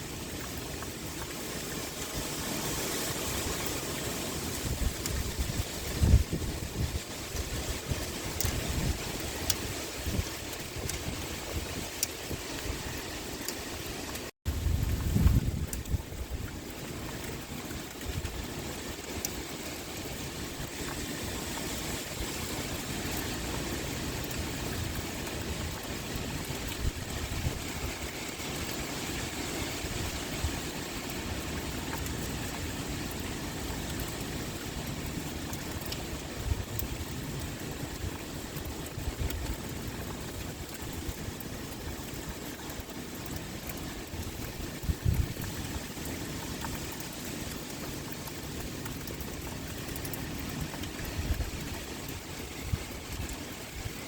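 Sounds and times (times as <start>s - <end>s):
pouring rain: 0.0s - 54.0s
wind: 0.0s - 54.0s.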